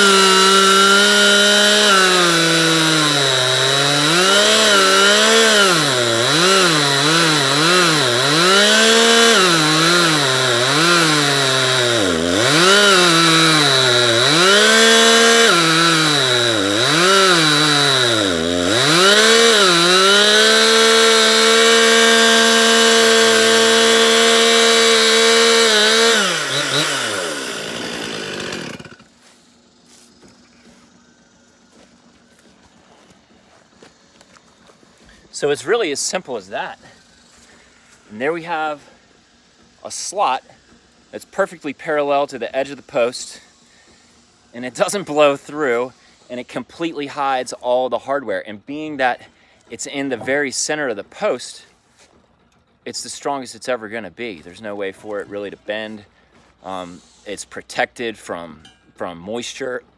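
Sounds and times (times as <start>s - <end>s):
chainsaw cutting wood: 0.0s - 47.8s, 54.4s - 57.6s.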